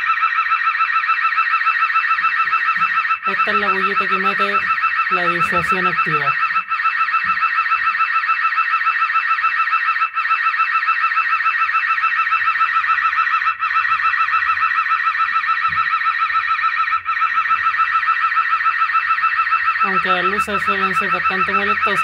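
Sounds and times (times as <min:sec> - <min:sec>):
security camera siren warbling: 0:00.0 - 0:22.0.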